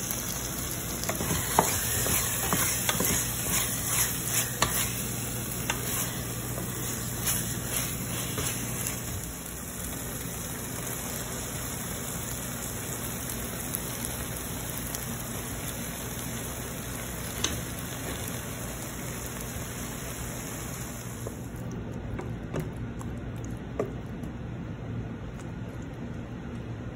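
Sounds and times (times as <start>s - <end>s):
sauce sizzling in a pot: 0.0s - 21.6s.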